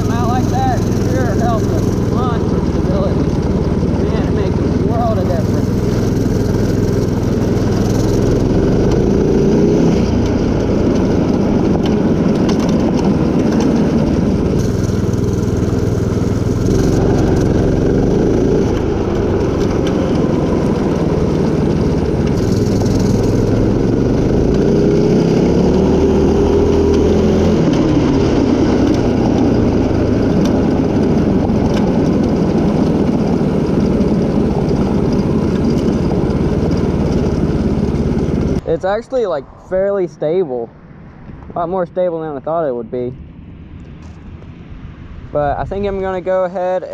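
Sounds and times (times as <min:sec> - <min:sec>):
mini bike engine revving: 0:00.0 - 0:38.7.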